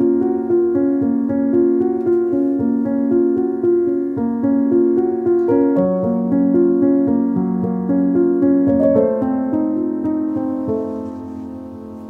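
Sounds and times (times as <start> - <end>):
piano playing flowing notes: 0.0 - 12.0.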